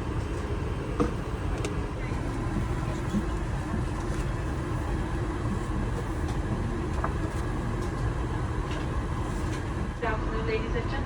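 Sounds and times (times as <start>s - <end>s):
aircraft cabin rumble: 0.0s - 10.8s.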